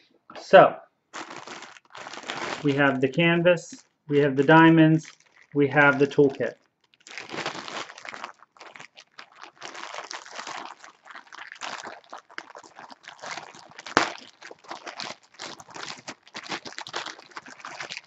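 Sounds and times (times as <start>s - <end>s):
plastic bag crinkling: 1.1s - 18.0s.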